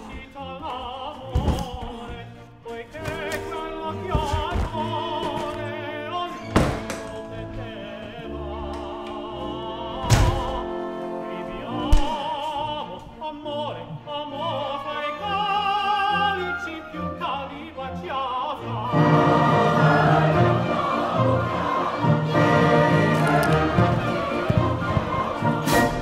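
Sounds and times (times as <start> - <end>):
operatic singing with vibrato: 0.0 - 26.0
orchestral accompaniment: 0.0 - 26.0.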